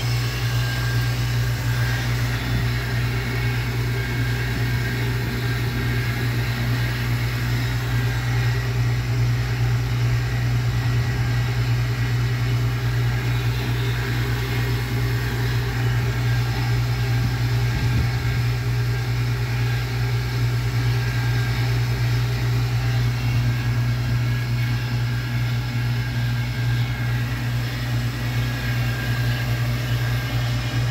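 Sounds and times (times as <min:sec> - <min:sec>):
lathe running low hum: 0:00.0 - 0:30.9.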